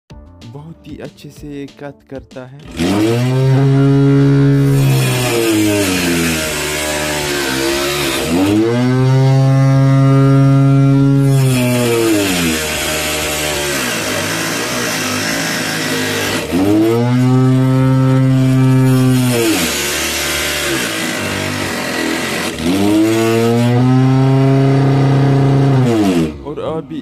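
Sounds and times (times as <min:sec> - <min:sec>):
saw blade cutting wood: 0:02.6 - 0:27.0
electric motor whine: 0:02.7 - 0:26.5.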